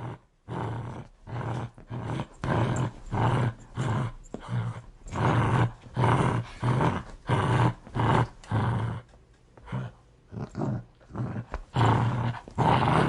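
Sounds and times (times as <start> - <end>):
dog growling: 0.0 - 13.0.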